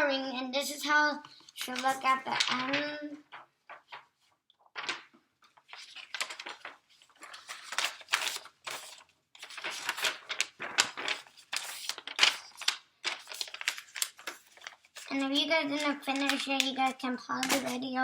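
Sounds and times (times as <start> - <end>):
paper and markers rustling: 0.9 - 18.0.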